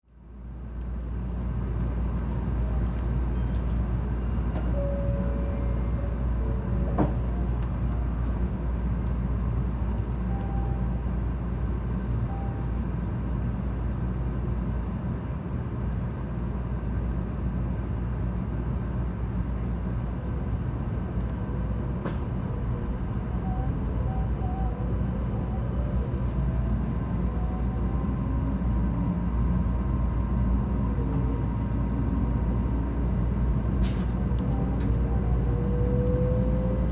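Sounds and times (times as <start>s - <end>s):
train cabin deep rumble: 0.2s - 36.9s.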